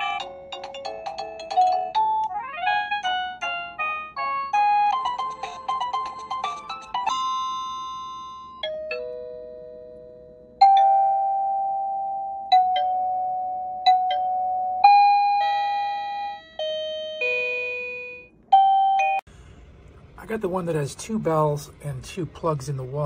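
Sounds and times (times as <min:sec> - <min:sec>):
doorbell electronic chimes: 0:00.0 - 0:19.3.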